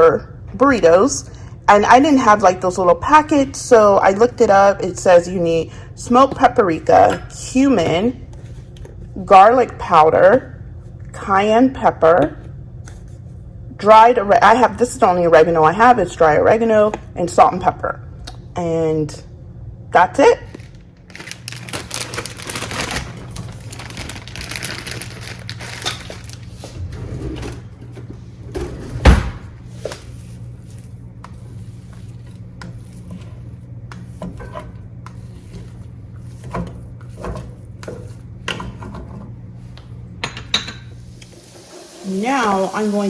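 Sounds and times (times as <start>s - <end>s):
steady low hum: 0.0s - 41.6s.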